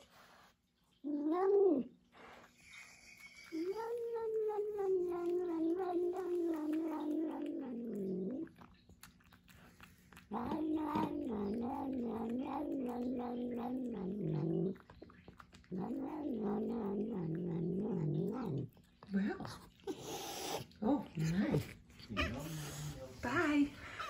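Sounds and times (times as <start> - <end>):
cat chewing wet food: 0.0 - 24.0.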